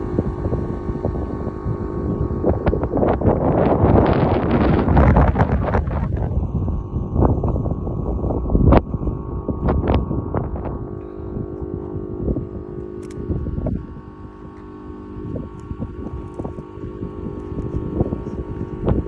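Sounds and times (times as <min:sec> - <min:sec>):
gusty wind buffeting microphone: 0:00.0 - 0:19.0
steady low hum: 0:00.0 - 0:19.0.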